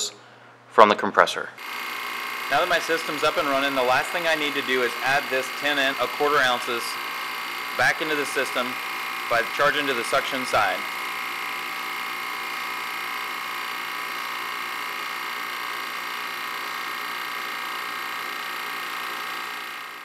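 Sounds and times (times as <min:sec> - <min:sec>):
refrigeration compressor humming: 0:01.6 - 0:20.0.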